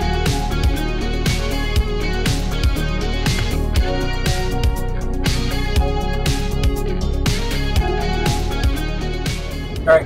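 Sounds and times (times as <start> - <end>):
background music with drum beat: 0.0 - 9.9.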